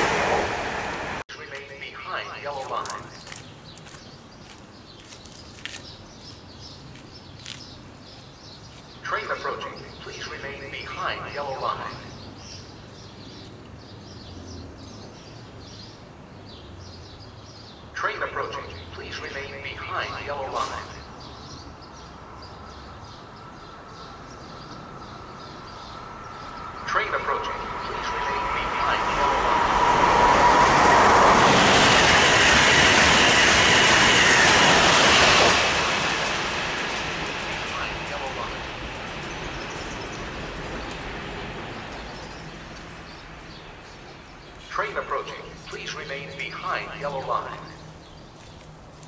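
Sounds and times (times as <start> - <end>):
high-speed train passing: 0.0 - 3.2, 9.0 - 48.0
birds chirping: 1.3 - 49.0.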